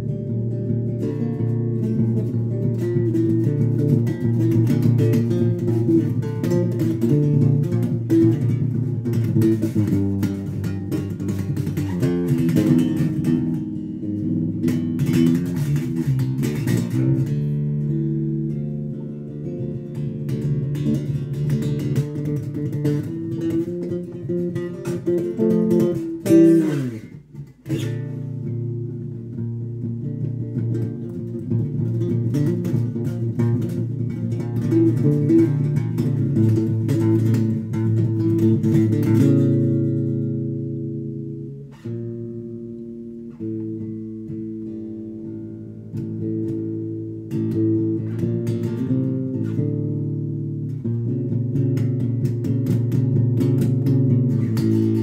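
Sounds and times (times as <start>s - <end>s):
electric bass guitar riff: 0.0s - 55.0s.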